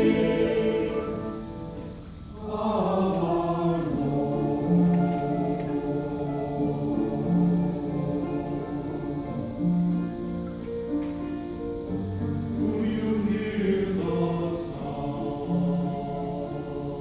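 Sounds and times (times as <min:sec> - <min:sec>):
church choir singing: 0:00.0 - 0:11.1, 0:12.1 - 0:17.0.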